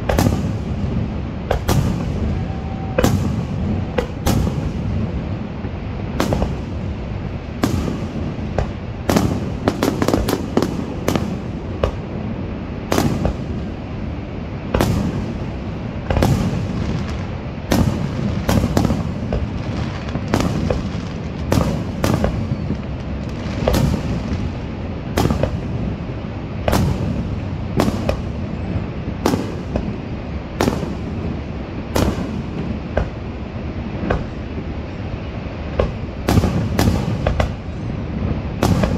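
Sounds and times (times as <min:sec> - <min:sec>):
fireworks bursting: 0:00.0 - 0:38.9
steady rushing noise: 0:00.0 - 0:38.9.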